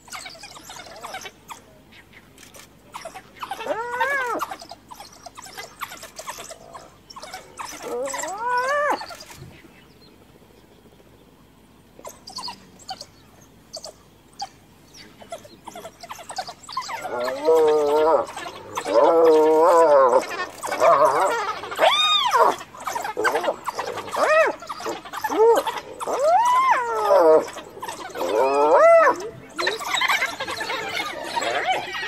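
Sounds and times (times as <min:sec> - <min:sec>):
hyena squealing calls: 0:00.0 - 0:01.7, 0:02.4 - 0:09.6, 0:12.1 - 0:32.0
wild dogs chirping: 0:00.0 - 0:32.0.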